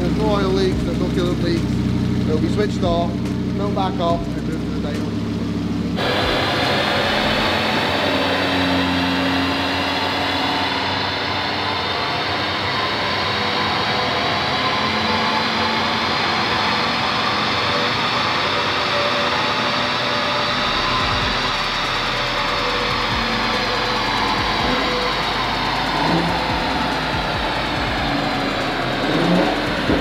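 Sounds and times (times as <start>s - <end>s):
car engine revving under load: 0.0s - 30.0s.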